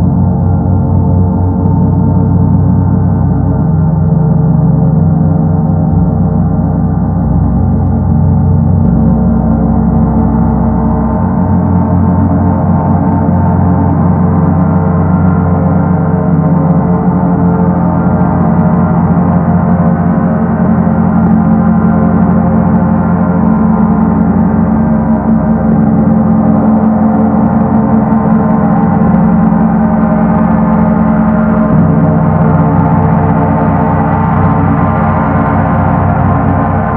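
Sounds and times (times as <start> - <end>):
gong rumbling: 0.0 - 36.9.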